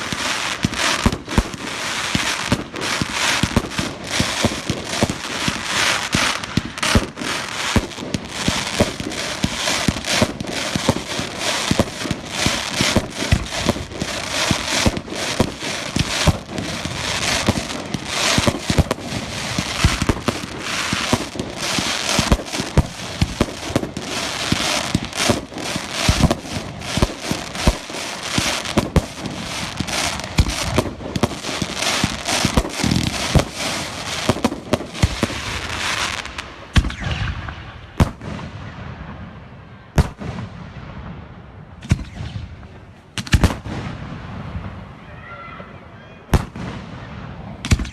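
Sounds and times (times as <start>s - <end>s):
fireworks banging and crackling: 0.0s - 47.9s.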